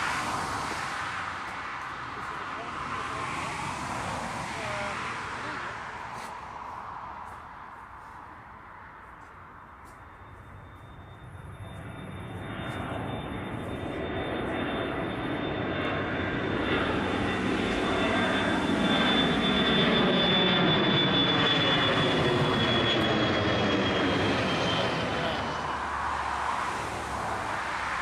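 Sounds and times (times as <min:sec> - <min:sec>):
jet airliner engines at takeoff: 0:00.0 - 0:28.0.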